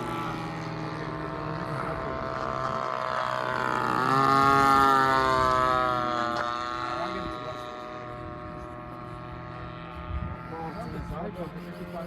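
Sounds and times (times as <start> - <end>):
model airplane engine buzzing: 0.0 - 12.0.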